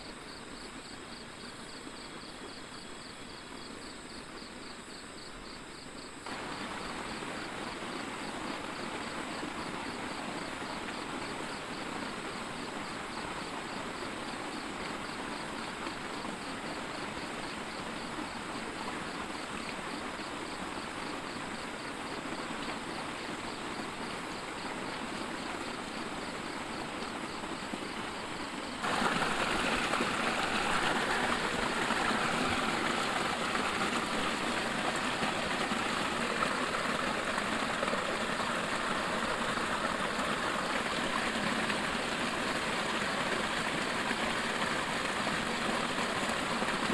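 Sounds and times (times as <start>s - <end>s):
heavy rain: 6.2s - 46.9s.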